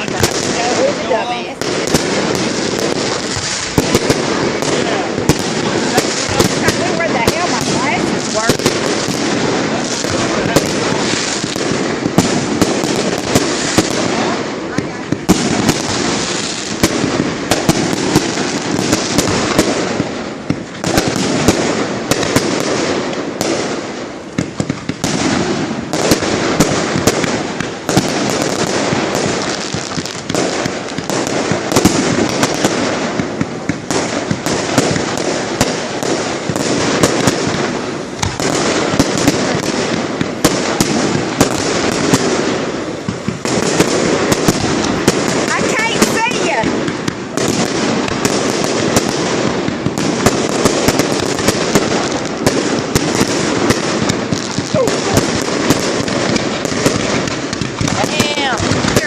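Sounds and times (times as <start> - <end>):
fireworks rumble and crackle: 0.0 - 59.0
sharp firework bangs: 0.0 - 59.0.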